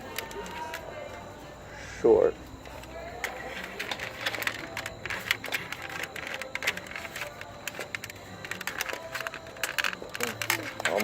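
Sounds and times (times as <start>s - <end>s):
plastic parts clicking together: 0.0s - 0.9s, 2.7s - 11.0s.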